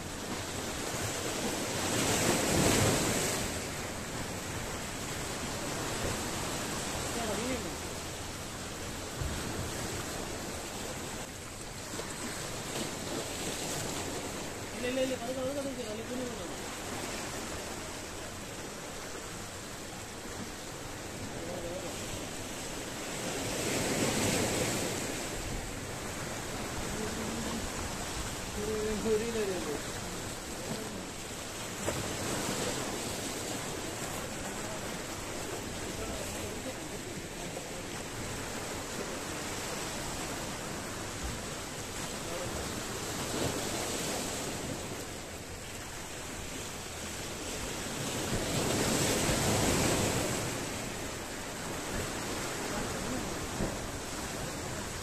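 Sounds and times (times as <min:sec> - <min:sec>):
waves washing against rocks: 0:00.0 - 0:55.0.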